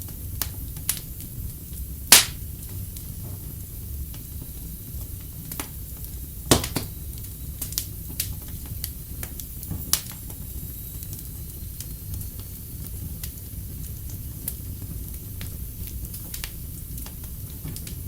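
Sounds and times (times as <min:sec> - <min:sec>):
fire popping and snapping: 0:00.0 - 0:18.0
fire rumble and hiss: 0:00.0 - 0:18.0.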